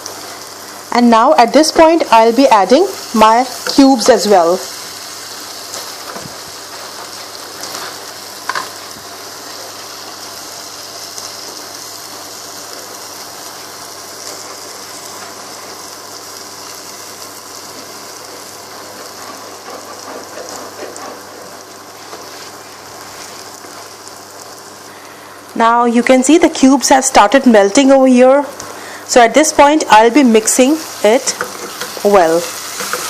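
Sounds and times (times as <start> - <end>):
masala sizzling in hot oil: 0.0 - 33.0.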